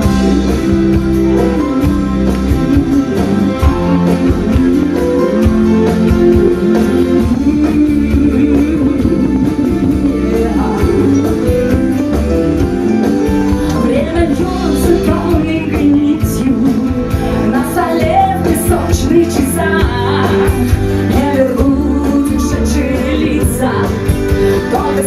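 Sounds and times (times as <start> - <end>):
bass guitar: 0.0 - 25.0
electric guitars: 0.0 - 25.0
steady drum beat: 0.0 - 25.0.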